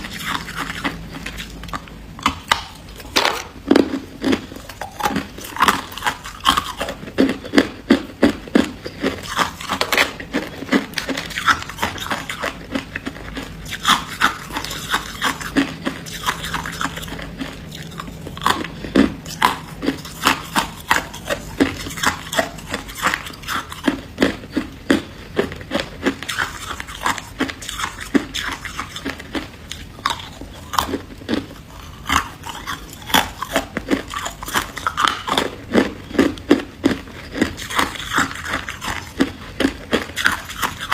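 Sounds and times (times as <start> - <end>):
frost being chewed: 0.0 - 40.9.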